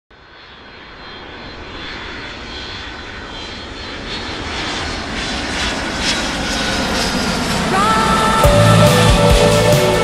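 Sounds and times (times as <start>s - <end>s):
jet airliner passing overhead: 0.1s - 10.0s.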